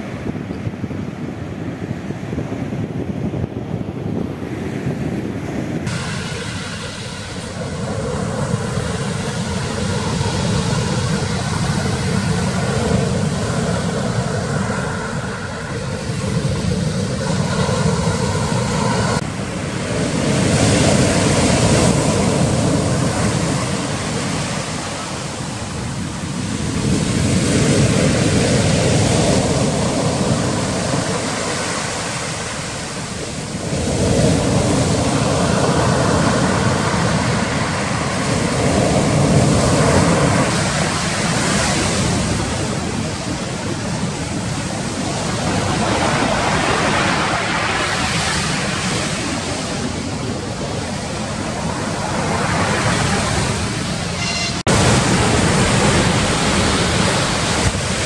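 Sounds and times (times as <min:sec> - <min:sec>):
surf breaking on shore: 0:00.0 - 0:58.0.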